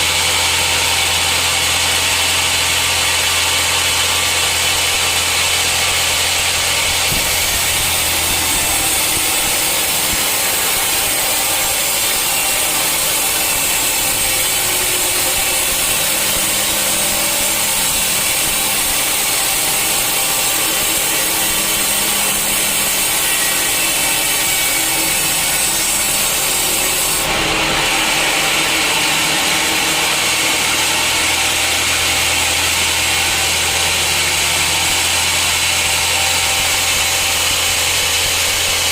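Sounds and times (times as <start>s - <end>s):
low motor hum: 0.0s - 38.9s
saw cutting through wood: 0.0s - 38.9s.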